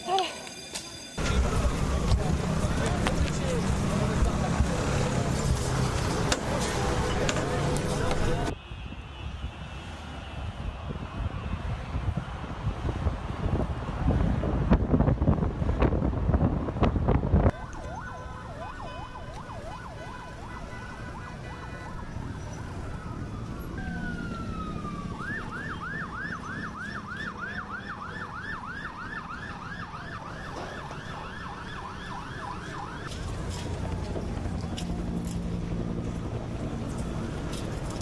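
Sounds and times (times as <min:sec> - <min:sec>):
emergency vehicle sirens: 0:00.0 - 0:15.4, 0:16.2 - 0:38.0.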